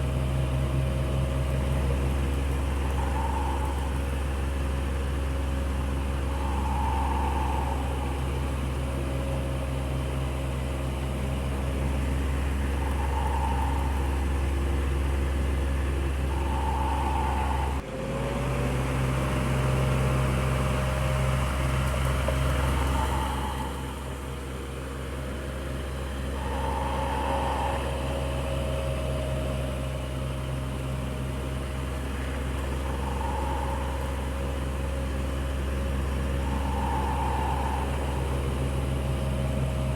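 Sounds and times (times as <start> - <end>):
electric fan running: 0.0 - 17.8, 18.8 - 39.9.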